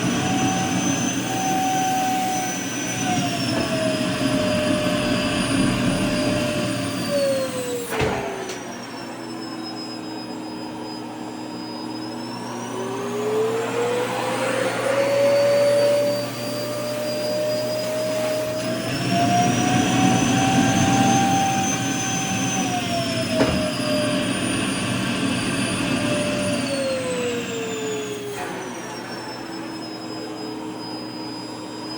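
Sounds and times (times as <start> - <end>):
vacuum cleaner motor whining: 0.0 - 31.9.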